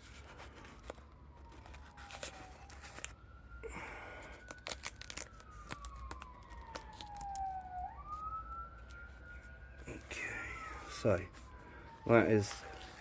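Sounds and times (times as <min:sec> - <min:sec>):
crackles from tape and metal: 0:00.0 - 0:13.0
siren wailing: 0:00.2 - 0:13.0.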